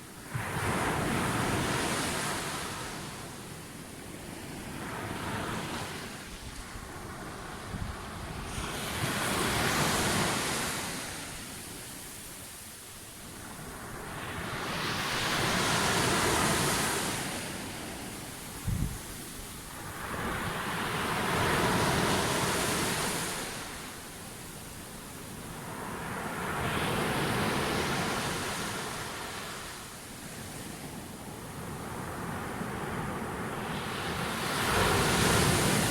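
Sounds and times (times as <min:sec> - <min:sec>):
sea waves breaking on beach: 0:04.3 - 0:12.3, 0:13.3 - 0:35.9.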